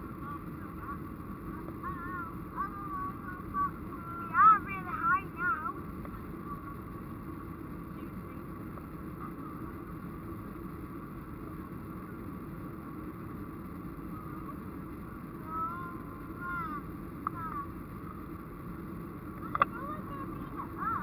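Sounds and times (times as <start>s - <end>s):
faint whine: 0.0s - 21.0s
jet engine drone in cabin: 0.0s - 21.0s.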